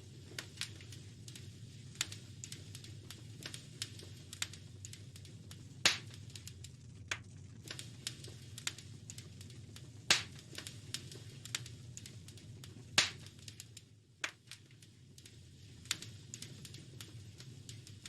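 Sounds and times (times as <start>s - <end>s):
low rumble of fire: 0.0s - 18.0s
wood fire crackling: 0.0s - 18.0s.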